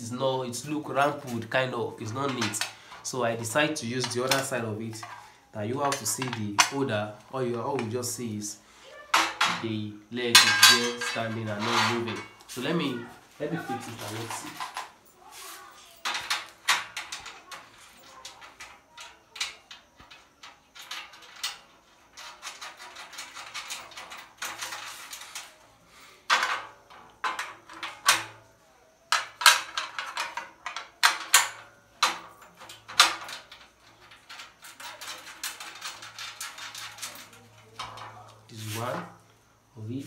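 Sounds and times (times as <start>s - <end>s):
metal clinks knocks and scrapes: 1.0s - 8.0s, 9.1s - 28.5s, 29.1s - 39.7s.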